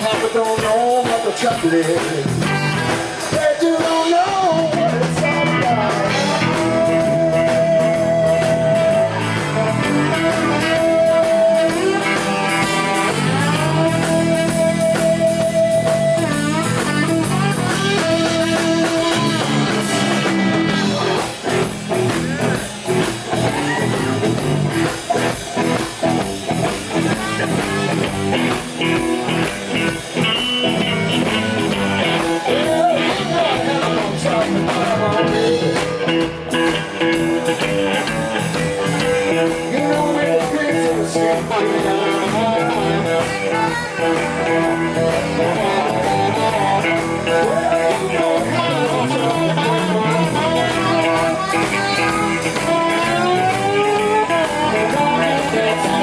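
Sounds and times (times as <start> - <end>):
blues-rock band playing: 0.0 - 56.0
electric guitar bending notes: 0.0 - 56.0.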